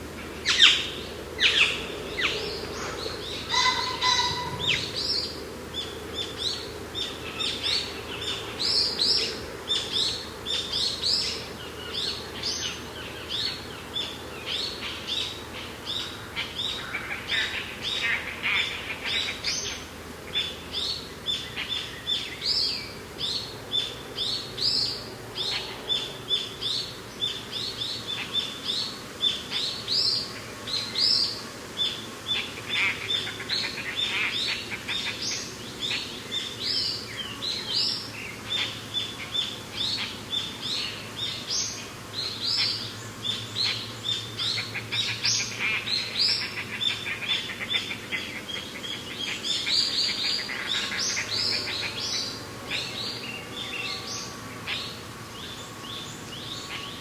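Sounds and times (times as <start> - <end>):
wind: 0.0 - 57.0
birds chirping and singing: 0.2 - 57.0.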